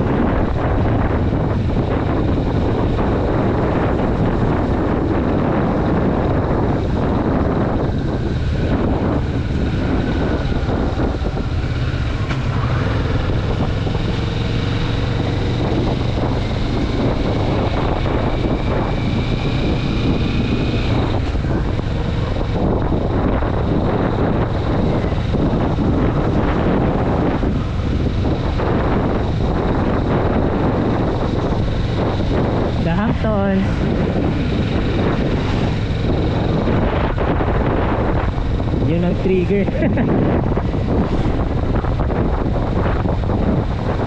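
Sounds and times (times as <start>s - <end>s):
motorcycle engine running: 0.0s - 44.0s
wind buffeting microphone: 0.0s - 44.0s.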